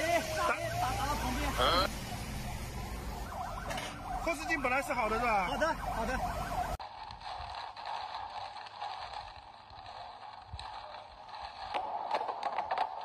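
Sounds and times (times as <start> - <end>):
wet tyres on road: 0.0 - 13.0.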